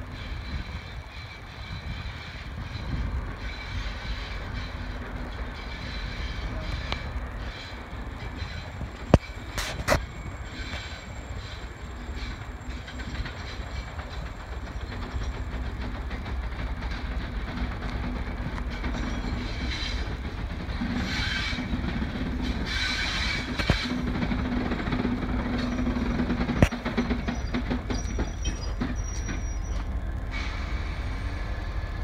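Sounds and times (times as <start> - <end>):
diesel locomotive engines droning: 0.0 - 32.0.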